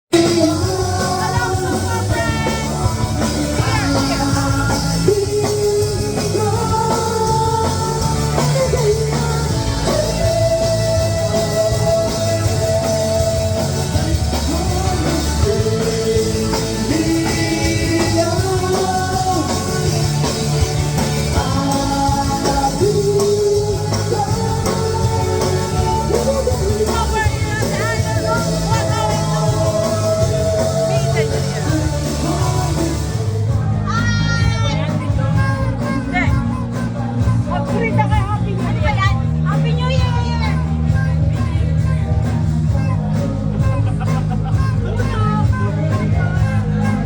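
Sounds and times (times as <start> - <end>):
rock music with sung vocal: 0.1 - 47.0.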